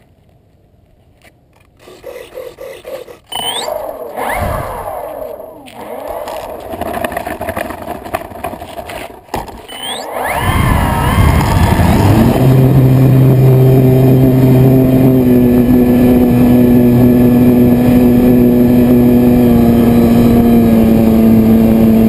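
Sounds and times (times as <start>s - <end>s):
electric motor and propeller: 1.5s - 22.0s
plane scraping over dirt: 1.5s - 22.0s.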